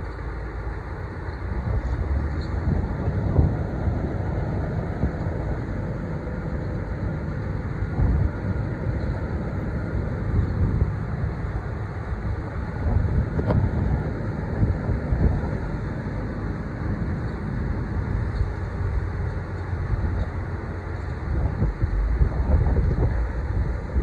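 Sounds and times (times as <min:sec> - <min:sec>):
ship engine rumble: 0:00.0 - 0:24.0
wind buffeting microphone: 0:01.0 - 0:24.0.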